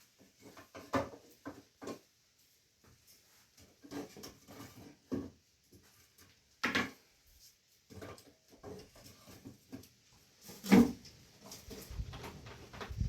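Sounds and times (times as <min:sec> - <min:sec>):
objects knocking and rustling: 0:00.0 - 0:13.0.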